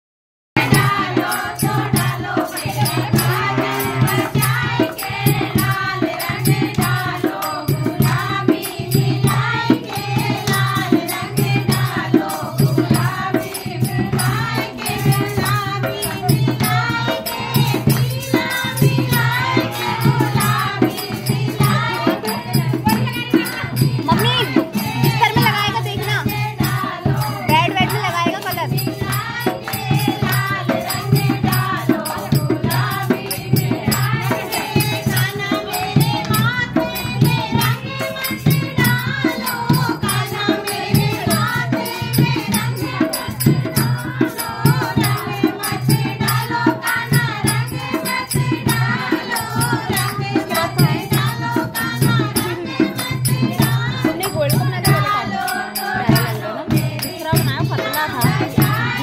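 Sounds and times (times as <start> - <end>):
hand drum beating: 0.6 - 59.0
rattling percussion: 0.6 - 59.0
women singing folk song: 0.6 - 59.0.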